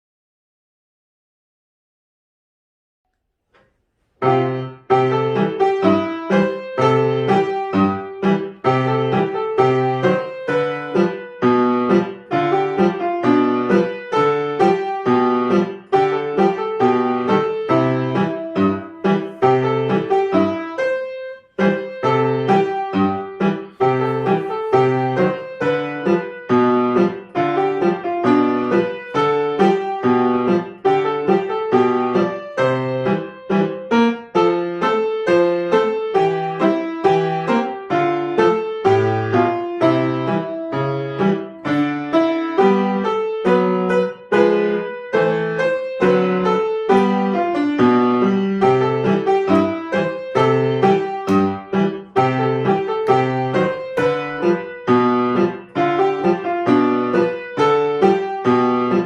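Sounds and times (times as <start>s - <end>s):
piano piece: 3.5s - 59.0s.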